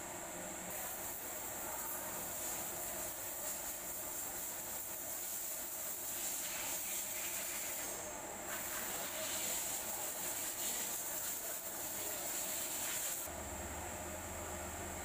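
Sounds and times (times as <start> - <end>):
steady hiss: 0.0 - 13.3.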